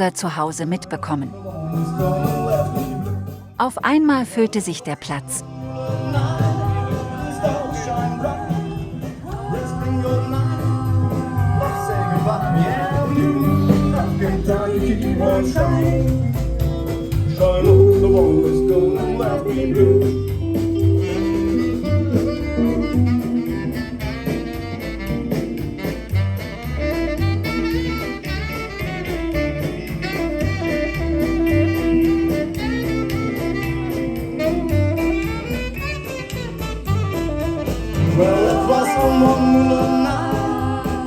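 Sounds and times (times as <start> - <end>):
moving bass line: 0.0 - 41.0
blues rock band instrumental: 5.4 - 41.0.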